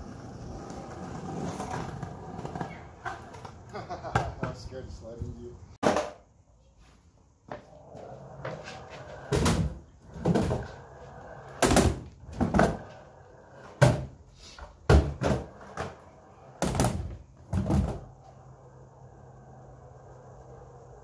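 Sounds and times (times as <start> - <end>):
skateboard wheels rolling: 0.0 - 21.0.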